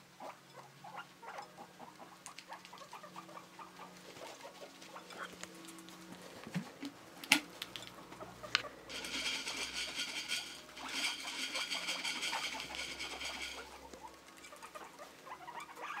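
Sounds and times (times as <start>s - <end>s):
guinea pigs squealing: 0.2s - 16.0s.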